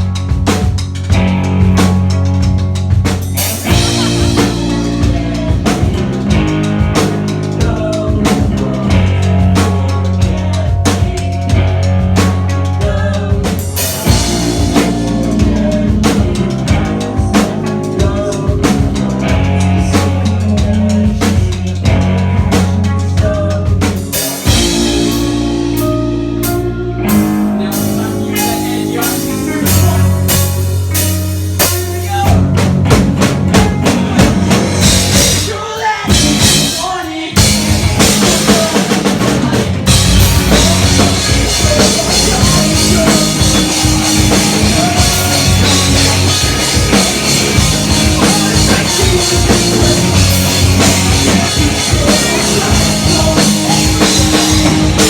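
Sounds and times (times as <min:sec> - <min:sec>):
drum kit: 0:00.0 - 0:55.0
rock band playing pop-punk: 0:00.0 - 0:55.0.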